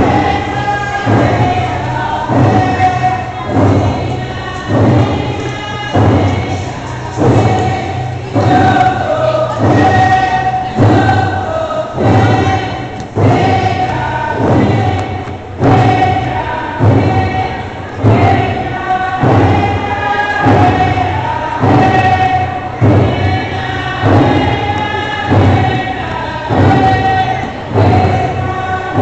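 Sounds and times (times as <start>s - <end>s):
group singing together: 0.0s - 29.0s.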